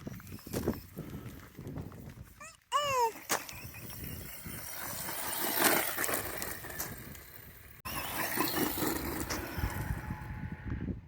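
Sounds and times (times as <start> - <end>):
electric rc truck driving: 0.0 - 11.0.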